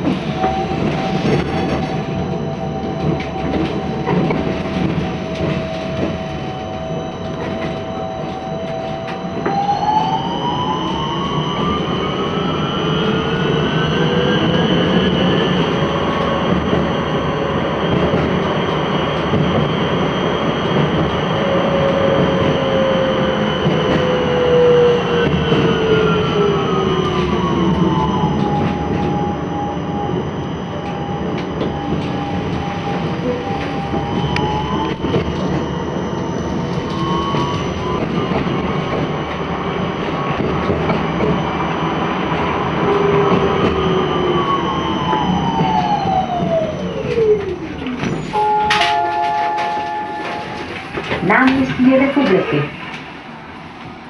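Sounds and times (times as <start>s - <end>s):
tram traction motor whine: 0.0s - 54.0s
wheels rumbling on rails: 0.0s - 54.0s.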